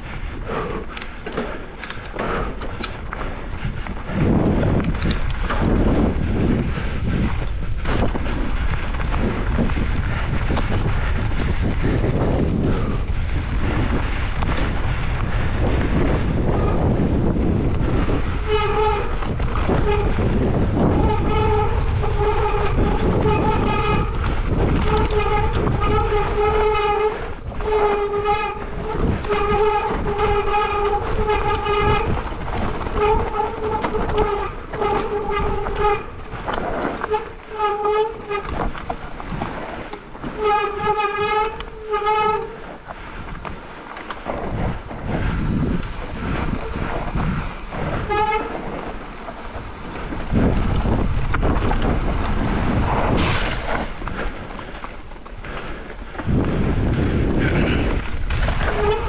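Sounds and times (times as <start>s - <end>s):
rushing tyre and wind noise: 0.0s - 59.0s.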